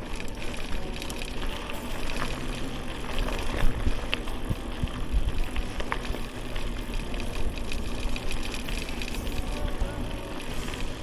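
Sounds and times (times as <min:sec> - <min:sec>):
bike tyre noise: 0:00.0 - 0:11.0
wind buffeting microphone: 0:00.0 - 0:11.0.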